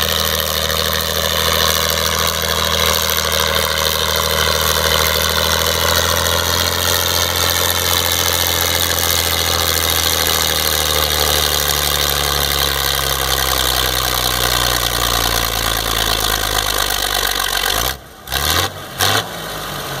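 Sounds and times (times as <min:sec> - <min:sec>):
diesel tractor engine under load: 0:00.0 - 0:20.0.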